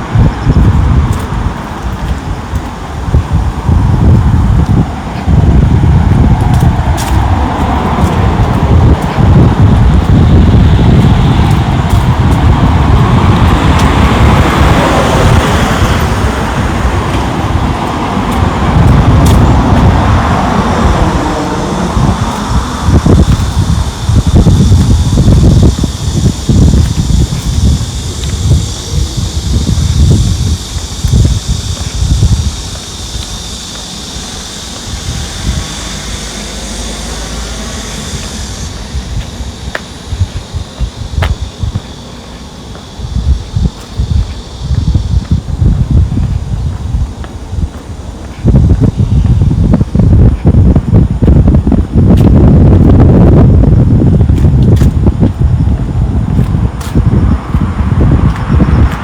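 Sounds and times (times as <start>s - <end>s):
distant engine rumble: 0.0s - 59.0s
vehicles passing on road: 0.0s - 59.0s.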